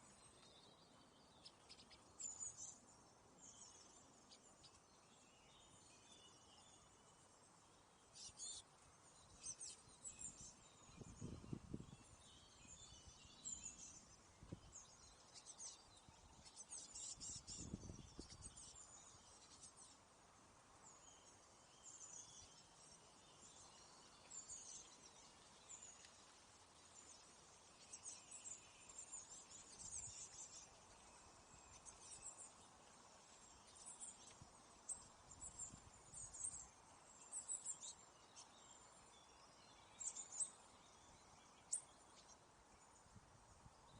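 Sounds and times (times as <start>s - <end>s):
faint outdoor hiss: 0.0s - 43.9s
small birds chirping: 0.0s - 43.9s.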